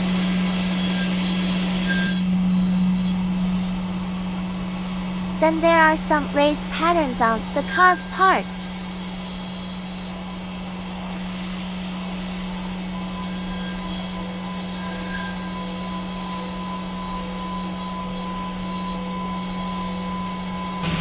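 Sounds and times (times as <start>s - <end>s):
milling machine hum and hiss: 0.0s - 5.4s, 8.0s - 21.0s
thin steady whine: 0.0s - 21.0s.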